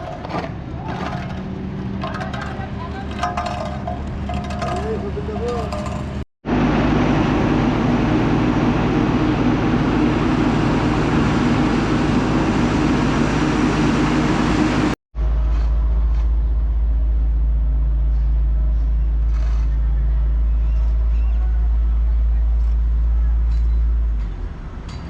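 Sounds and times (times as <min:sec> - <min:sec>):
deep engine drone: 0:00.0 - 0:25.0
vehicle engines running: 0:00.0 - 0:25.0.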